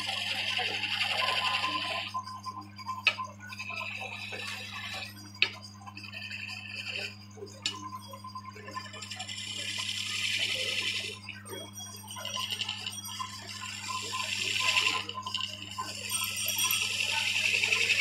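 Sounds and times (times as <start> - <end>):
motor hum: 0.0 - 18.0.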